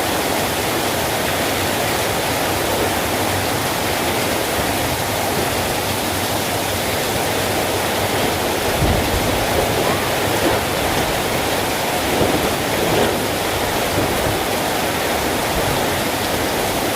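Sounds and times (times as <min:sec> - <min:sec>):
heavy rain pouring: 0:00.0 - 0:16.9
wind buffeting microphone: 0:01.6 - 0:16.9.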